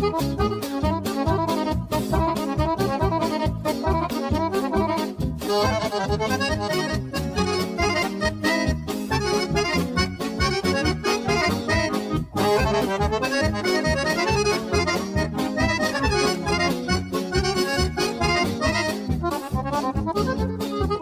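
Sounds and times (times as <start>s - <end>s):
accordion folk dance music: 0.0s - 21.0s.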